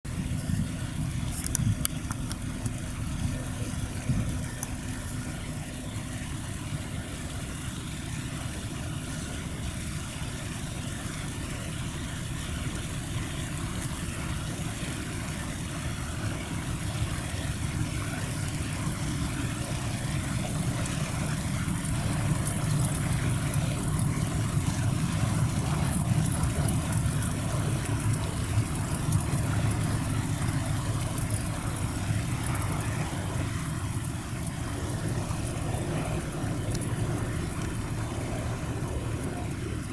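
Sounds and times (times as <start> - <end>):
ship engine rumble: 0.1 - 39.9.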